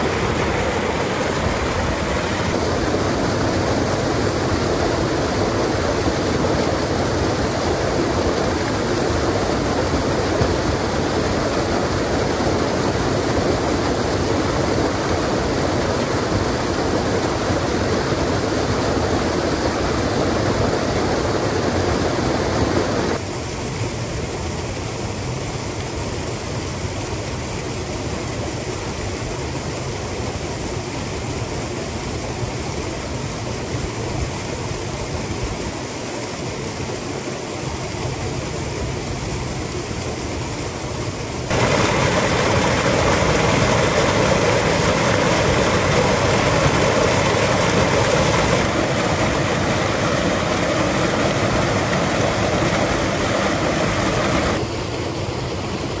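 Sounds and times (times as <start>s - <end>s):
waterfall pouring into pool: 0.0s - 23.2s, 24.0s - 56.0s.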